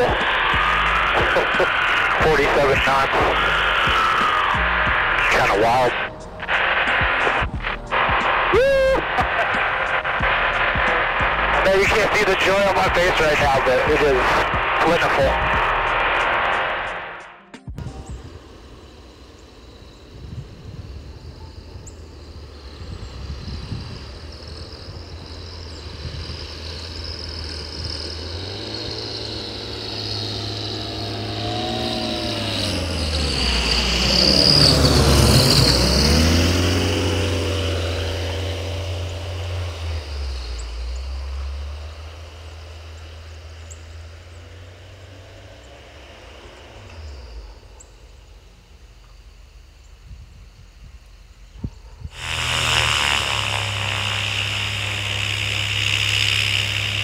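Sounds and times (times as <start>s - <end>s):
light aircraft engine and propeller drone: 0.0s - 8.4s, 9.0s - 16.7s, 17.8s - 57.0s.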